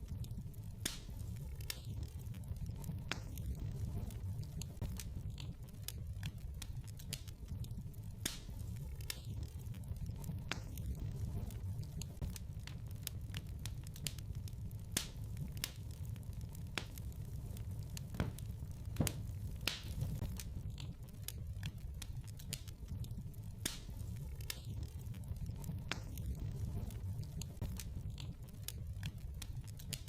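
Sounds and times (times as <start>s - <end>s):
low steady fire rumble: 0.0s - 30.0s
wood fire crackling and popping: 0.0s - 30.0s.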